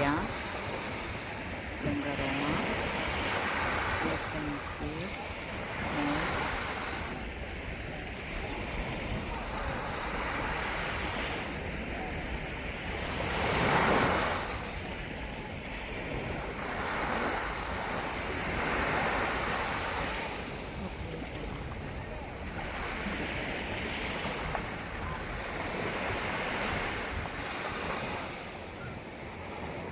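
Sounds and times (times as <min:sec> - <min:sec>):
sea waves breaking on beach: 0:00.0 - 0:29.9.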